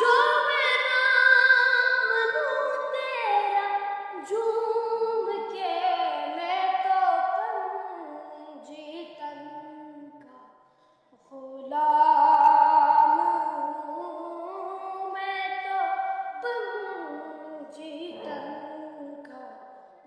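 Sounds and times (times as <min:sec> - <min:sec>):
person singing unaccompanied: 0:00.0 - 0:10.2, 0:11.3 - 0:19.5.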